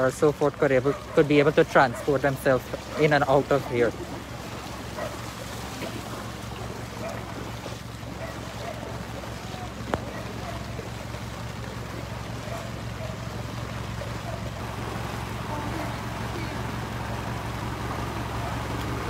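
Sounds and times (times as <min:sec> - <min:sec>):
feet sloshing in water: 0:00.0 - 0:19.0
rain and wind: 0:00.0 - 0:19.0
truck engine idling: 0:00.0 - 0:19.0.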